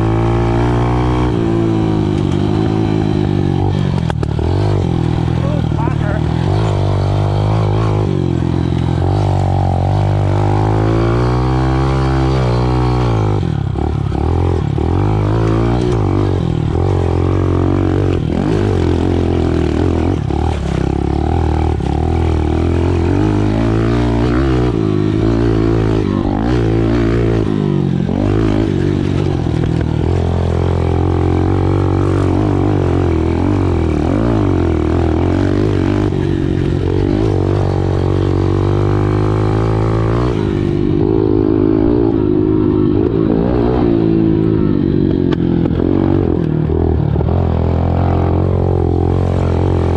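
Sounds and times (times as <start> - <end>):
small motorcycle engine revving: 0.0 - 49.9.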